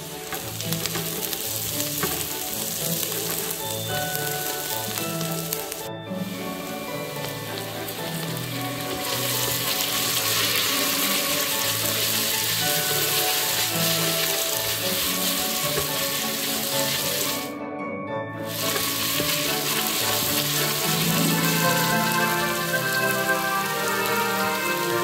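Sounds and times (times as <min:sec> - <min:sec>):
onion sizzling in oil: 0:00.0 - 0:17.5, 0:18.5 - 0:25.0
soft background music: 0:00.0 - 0:25.0.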